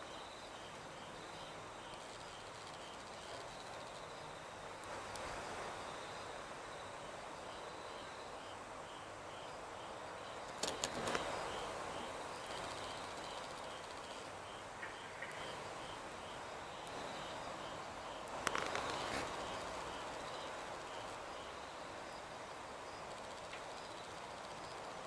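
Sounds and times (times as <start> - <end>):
insect chirping: 0.0 - 25.0
steady hiss: 0.0 - 25.0.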